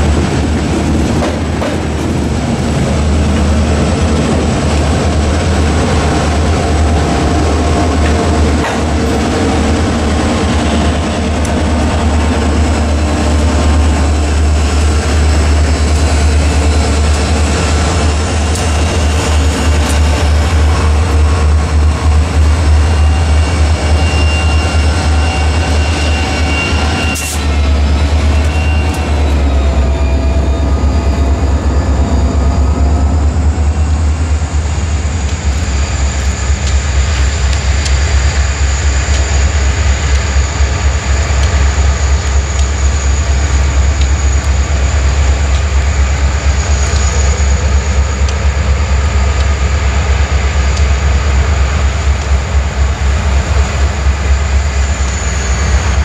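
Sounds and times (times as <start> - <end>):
diesel locomotives running past: 0.0 - 56.0.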